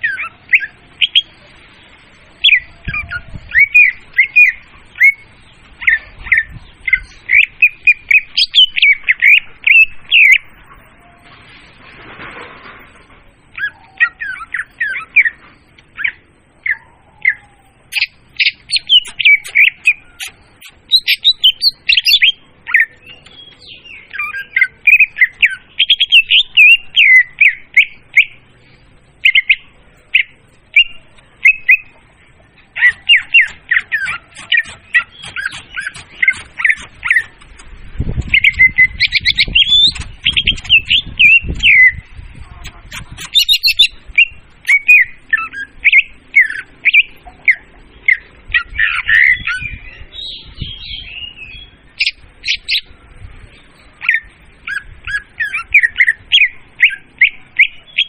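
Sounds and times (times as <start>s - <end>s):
bird song chirps and whistles: 0.0s - 1.3s, 2.4s - 11.2s, 13.5s - 28.4s, 29.2s - 32.0s, 32.8s - 52.9s, 54.0s - 58.0s.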